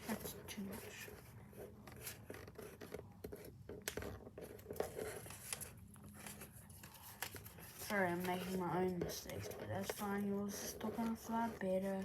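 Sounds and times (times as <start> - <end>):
paper rustling and creasing: 0.0 - 12.0.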